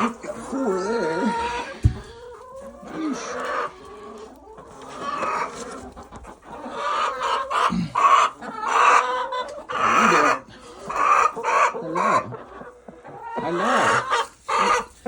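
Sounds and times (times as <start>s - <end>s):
hens clucking and squawking: 0.0s - 15.0s.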